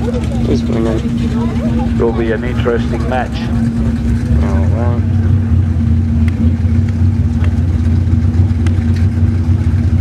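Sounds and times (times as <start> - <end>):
car engines idling: 0.0 - 10.0.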